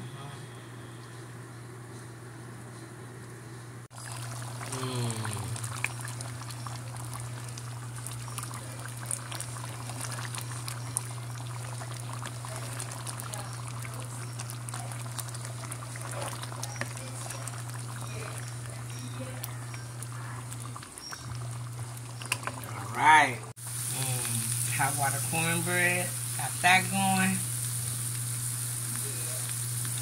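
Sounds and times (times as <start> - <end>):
low steady hum: 0.0 - 30.0
pot bubbling at a simmer: 3.9 - 30.0.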